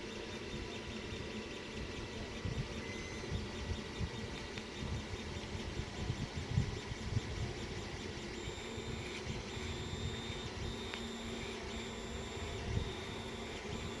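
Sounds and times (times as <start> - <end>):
fan and motor hum: 0.0 - 14.0
stepper motors whining: 0.0 - 14.0.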